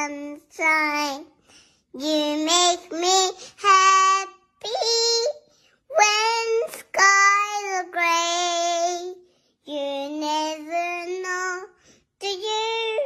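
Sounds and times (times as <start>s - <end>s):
child singing slow tune: 0.0s - 13.0s.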